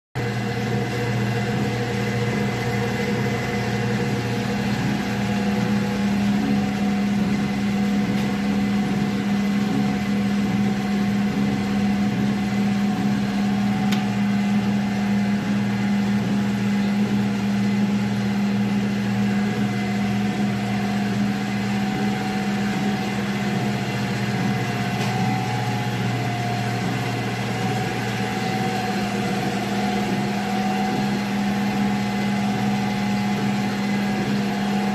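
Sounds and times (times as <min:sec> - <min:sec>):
hydraulic press motor hum: 0:00.2 - 0:34.9.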